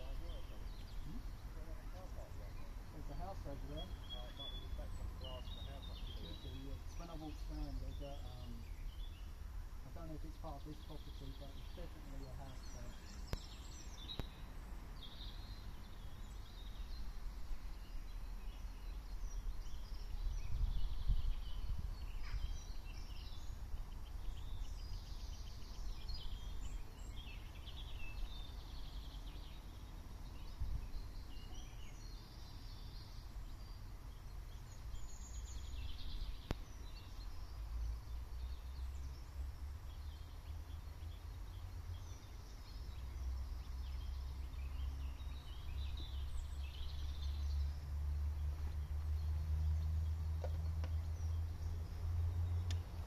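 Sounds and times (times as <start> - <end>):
small birds chirping and singing: 0.0 - 53.0.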